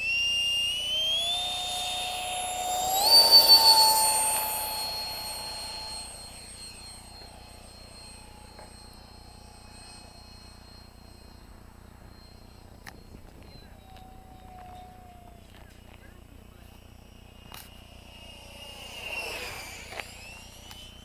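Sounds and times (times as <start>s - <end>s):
electric ducted fan whine: 0.0s - 21.0s.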